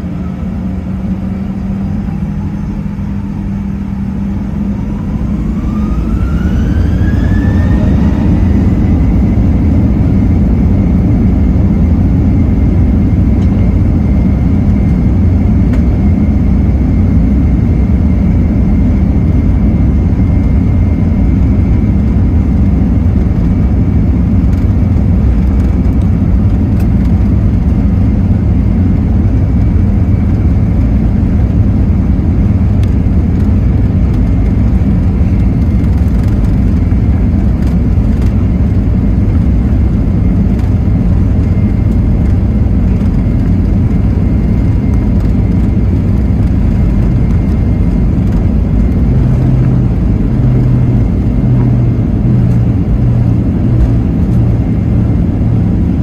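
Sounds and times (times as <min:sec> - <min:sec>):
deep rumble: 0:00.0 - 0:56.0
faint steady whine: 0:00.0 - 0:56.0
jet engines running at low thrust: 0:00.0 - 0:56.0.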